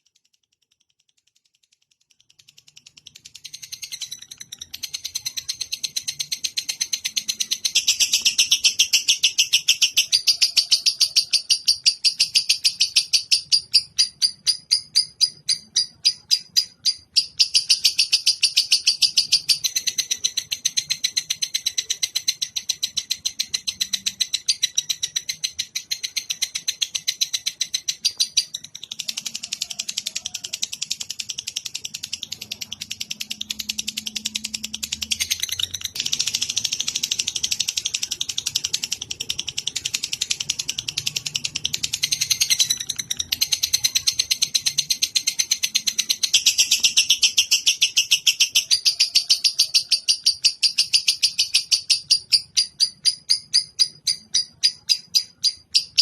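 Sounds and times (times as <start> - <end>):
cage bird trilling: 2.4 - 56.0.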